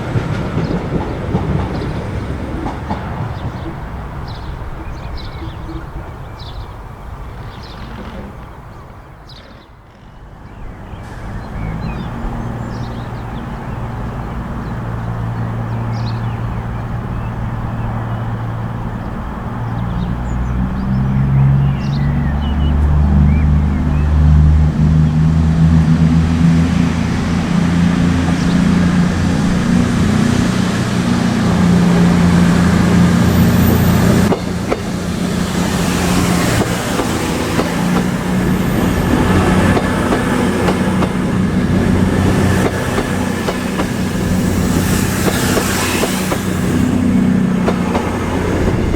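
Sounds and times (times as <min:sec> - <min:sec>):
diesel train engine: 0:00.0 - 0:48.9.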